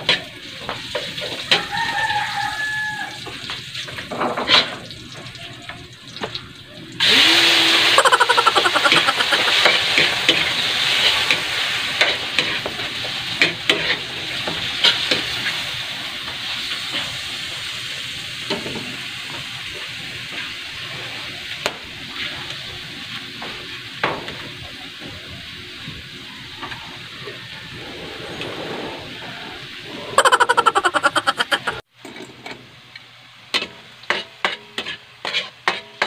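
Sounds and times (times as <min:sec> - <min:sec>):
food sizzling in a wok: 0:00.0 - 0:28.0, 0:29.1 - 0:36.0.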